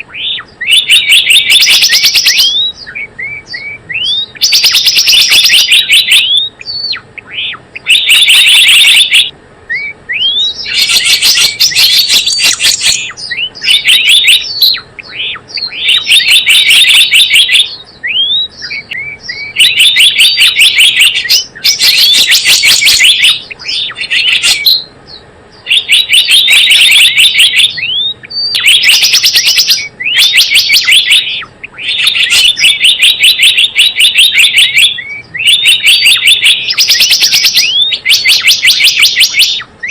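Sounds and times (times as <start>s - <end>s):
bird chattering trills: 0.0s - 39.9s
bird rising chirps: 0.0s - 39.9s.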